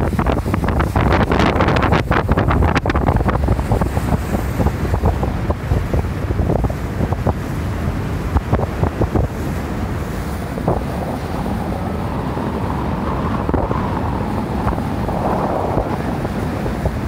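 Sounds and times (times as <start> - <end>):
low rumble of boat and water: 0.0 - 17.0
wind buffeting the microphone: 0.0 - 17.0.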